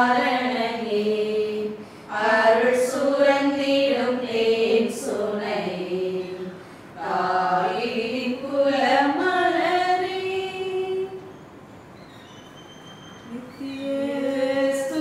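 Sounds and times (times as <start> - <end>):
voices singing a hymn: 0.0 - 11.3, 13.3 - 15.0.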